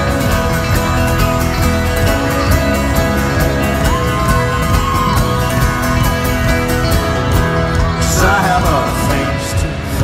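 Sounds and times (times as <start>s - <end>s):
banjo: 0.0s - 10.0s
live folk-rock band playing: 0.0s - 10.0s
steady drum beat: 0.0s - 10.0s.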